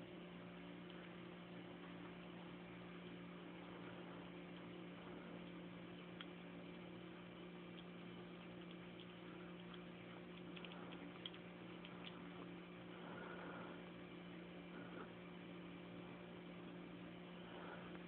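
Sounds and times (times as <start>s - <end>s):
steady low hum: 0.0s - 18.0s
cat licking and chewing: 0.1s - 18.0s.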